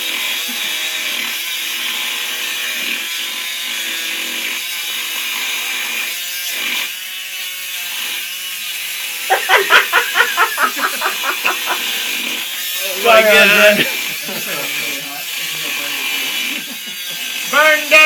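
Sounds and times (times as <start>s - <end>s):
saw grinding through steel: 0.0s - 18.0s.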